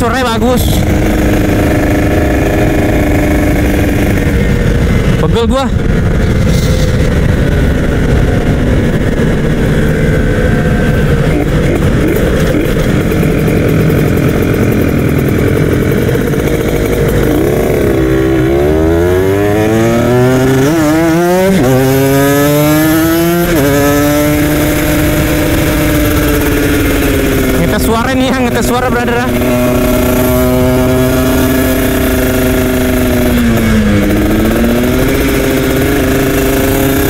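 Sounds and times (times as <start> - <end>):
motorcycle engine accelerating: 0.0 - 37.0
wind noise: 0.0 - 37.0.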